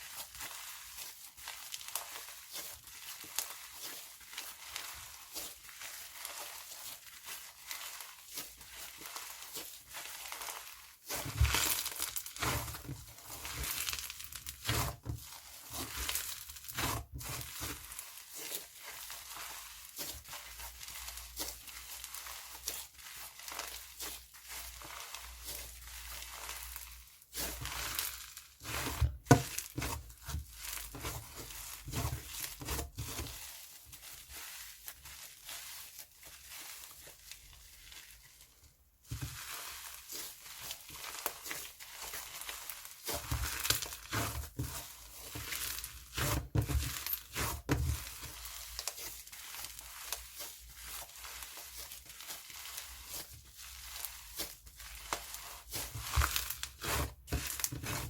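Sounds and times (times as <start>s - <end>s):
slime squishing: 0.0s - 58.0s.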